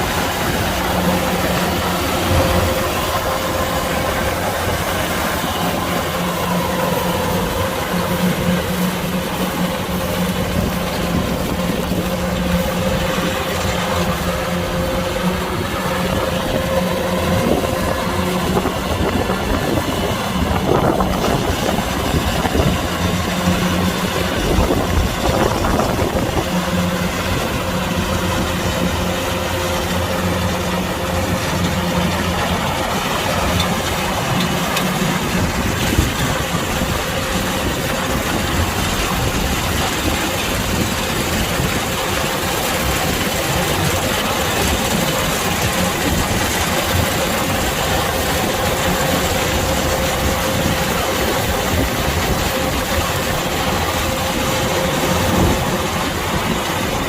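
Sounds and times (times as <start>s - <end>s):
combine harvester running: 0.0s - 57.0s
low hum: 0.0s - 57.0s.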